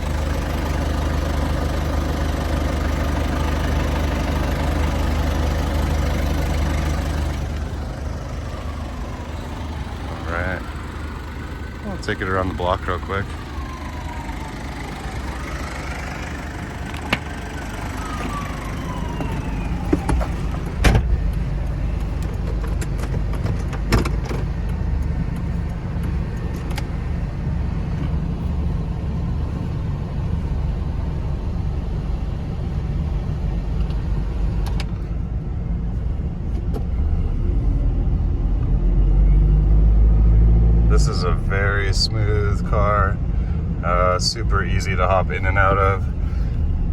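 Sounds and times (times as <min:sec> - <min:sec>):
van engine and road rumble: 0:00.0 - 0:46.9.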